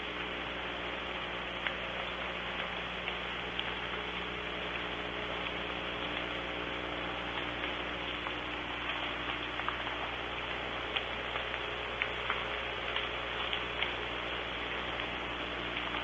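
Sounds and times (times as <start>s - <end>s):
low steady hum: 0.0s - 16.0s
soft rain falling: 0.0s - 16.0s.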